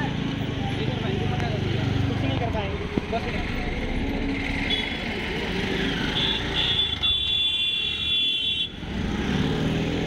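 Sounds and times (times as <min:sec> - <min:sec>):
road traffic passing: 0:00.0 - 0:10.0.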